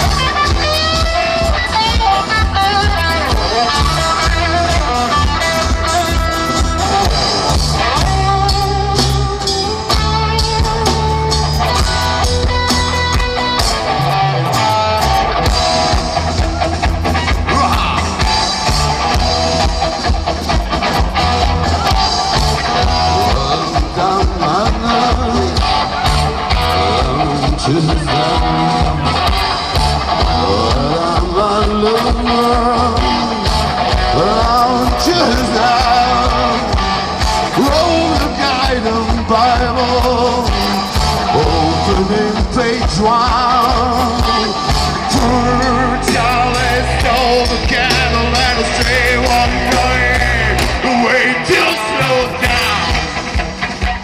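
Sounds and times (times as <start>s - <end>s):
instrumental rock music: 0.0s - 54.0s.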